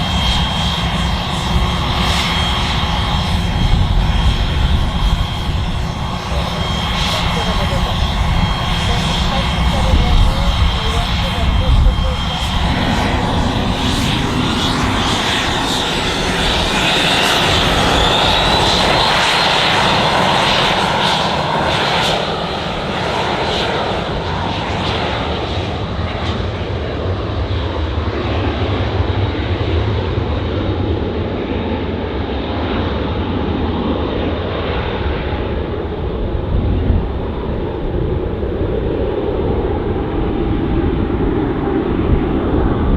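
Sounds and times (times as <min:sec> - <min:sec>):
airplane engine passing: 0:00.0 - 0:42.9.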